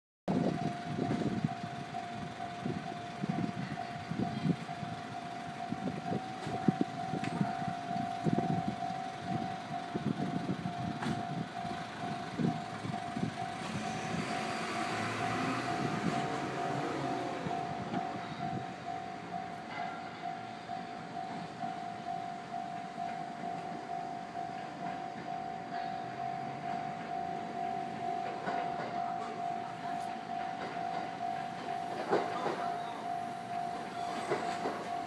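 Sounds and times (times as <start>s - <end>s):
electric train approaching: 0.3s - 35.0s
pulsing electronic warning tone: 0.4s - 35.0s.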